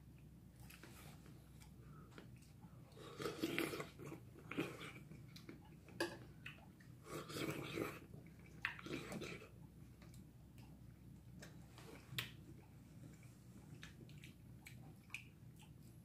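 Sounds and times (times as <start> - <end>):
person chewing food: 0.2 - 16.0.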